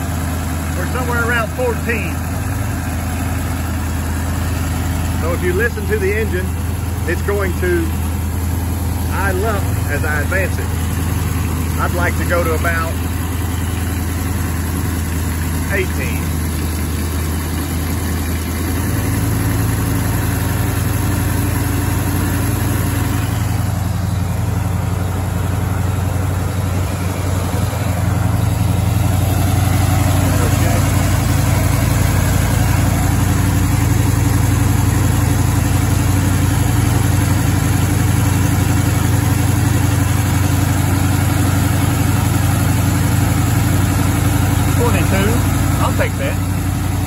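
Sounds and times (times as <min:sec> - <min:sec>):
engine at fast idle: 0:00.0 - 0:47.0.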